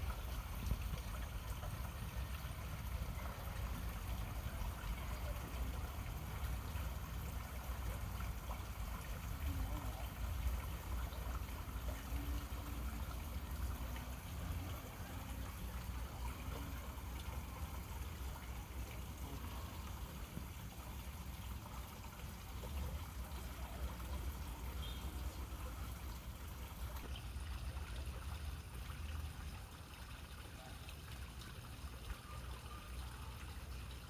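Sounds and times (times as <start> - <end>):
low constant rumble: 0.0 - 34.0
water trickling: 0.0 - 34.0.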